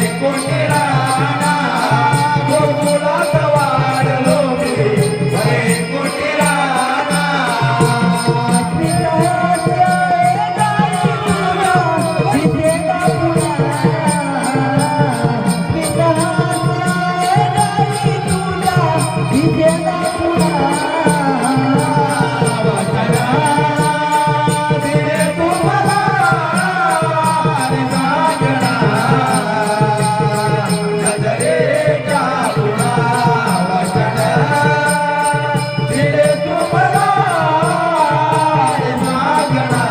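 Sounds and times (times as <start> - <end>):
jingling rattling percussion: 0.0 - 39.9
person singing folk melody: 0.0 - 39.9.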